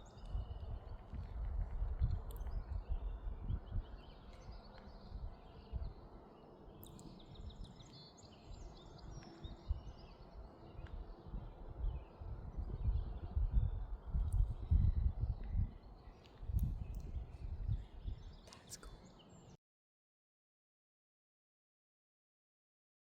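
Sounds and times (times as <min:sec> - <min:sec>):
songbirds chirping and trilling: 0:00.0 - 0:19.6.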